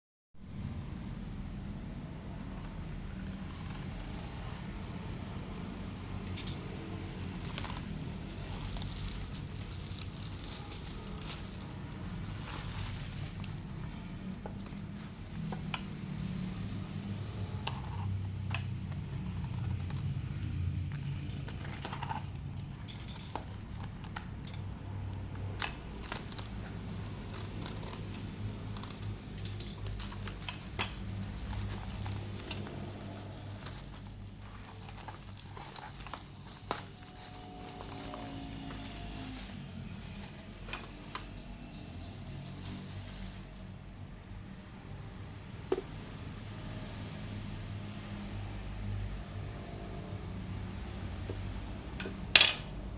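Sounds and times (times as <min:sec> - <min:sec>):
packaging rustling and crinkling: 0:00.6 - 0:44.1.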